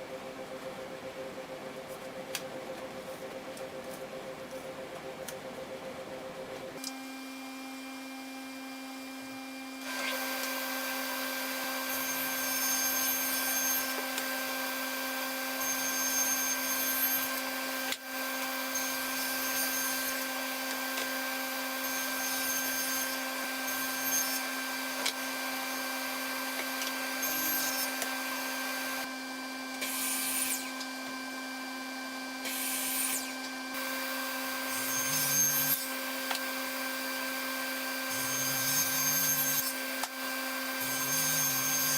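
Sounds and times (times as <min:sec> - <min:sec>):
router cutting wood: 0:06.8 - 0:41.9.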